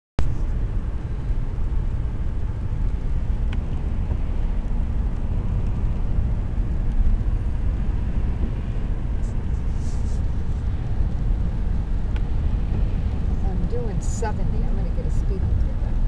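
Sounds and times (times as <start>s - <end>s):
car cabin road noise: 0.2s - 16.0s.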